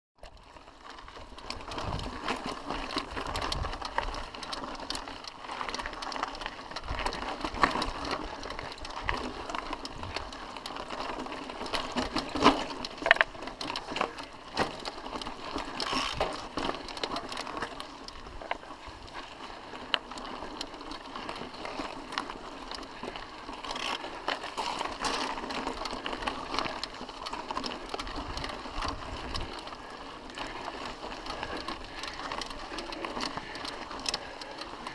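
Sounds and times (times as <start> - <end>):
mountain bike rattling on rocks: 0.2 - 34.9.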